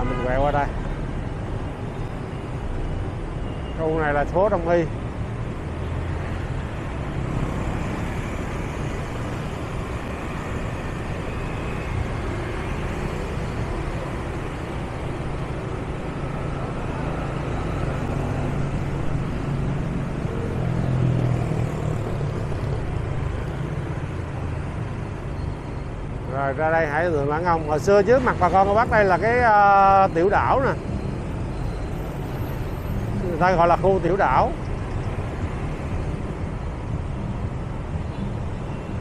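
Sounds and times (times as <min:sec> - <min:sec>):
road noise: 0:00.0 - 0:39.0
vehicle engines: 0:00.0 - 0:39.0.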